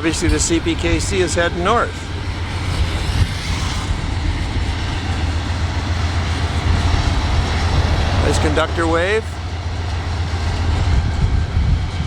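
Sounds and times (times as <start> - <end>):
freight train rumble: 0.0 - 12.0
wheels hissing on rails: 0.0 - 12.0.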